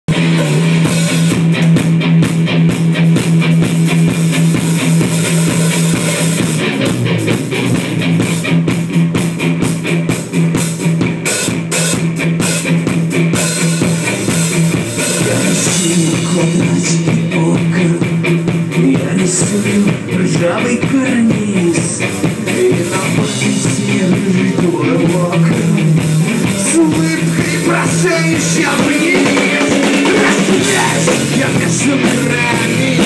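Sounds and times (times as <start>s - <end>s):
drum kit: 0.1s - 33.0s
electric guitars: 0.1s - 33.0s.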